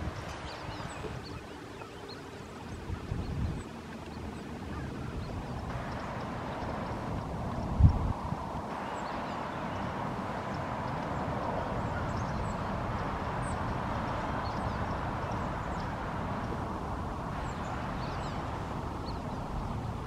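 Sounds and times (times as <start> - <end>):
small birds chirping: 0.0 - 20.0
wind rumble on microphone: 0.0 - 20.0.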